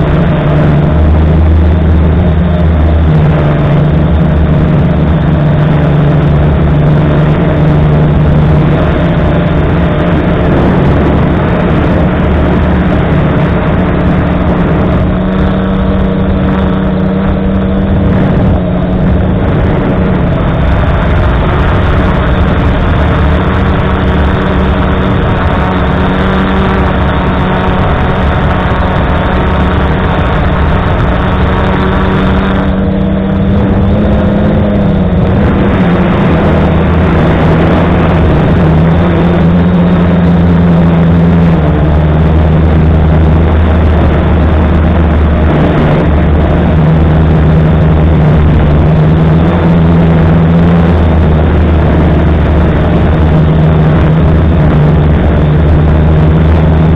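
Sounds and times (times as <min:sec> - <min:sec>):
quadcopter motors humming: 0:00.0 - 0:56.9.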